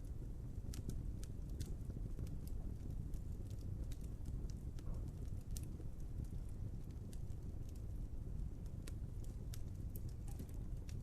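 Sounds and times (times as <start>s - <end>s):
fire crackling and popping: 0.0s - 11.0s
wood fire rumbling: 0.0s - 11.0s.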